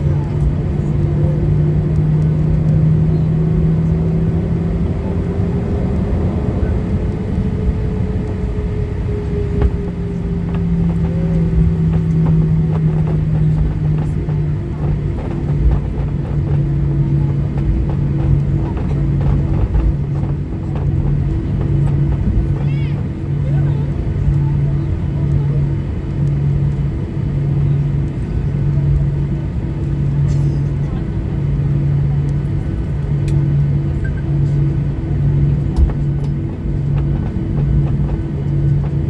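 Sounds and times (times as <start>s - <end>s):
higher engine tone: 0.0s - 39.0s
jet engine cabin rumble: 0.0s - 39.0s.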